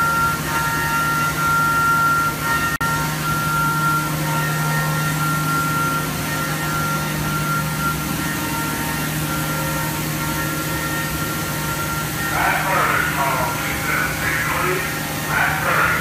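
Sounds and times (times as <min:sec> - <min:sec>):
machine motors humming: 0:00.0 - 0:16.0.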